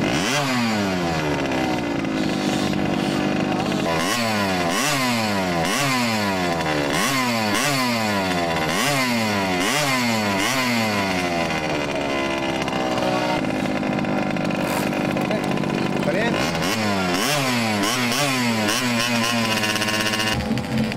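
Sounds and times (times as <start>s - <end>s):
small motorcycle engines racing: 0.0s - 20.9s.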